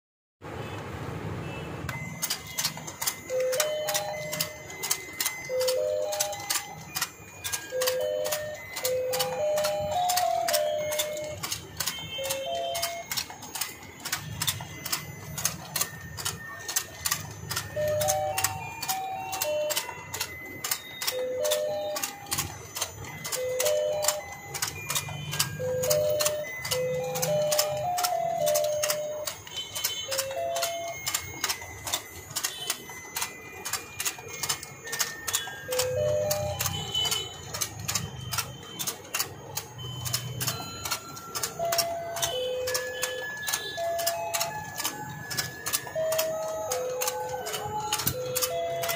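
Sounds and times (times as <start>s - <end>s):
toy beeping tune: 1.4s - 48.9s
toy mechanism clicking: 1.9s - 48.9s.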